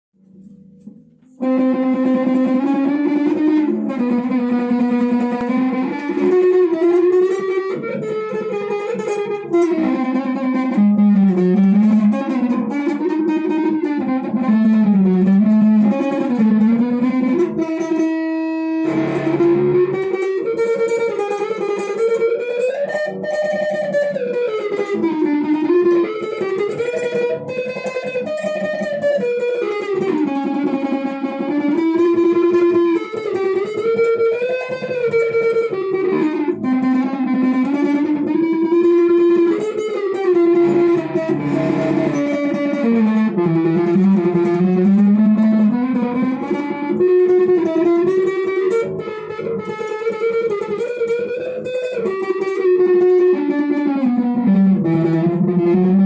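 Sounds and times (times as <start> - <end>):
electric guitar lead melody: 0.2 - 56.0.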